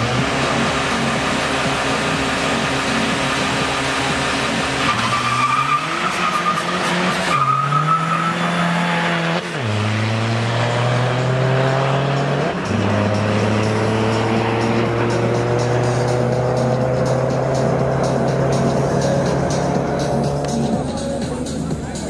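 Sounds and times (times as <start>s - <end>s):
racing car engines revving: 0.0s - 22.0s.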